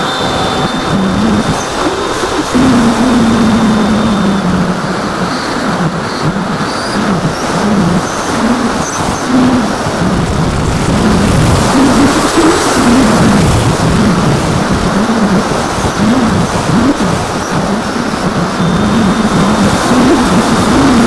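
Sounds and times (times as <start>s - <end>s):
model plane electric motor: 0.0s - 21.0s
wind rushing over microphone: 0.0s - 21.0s.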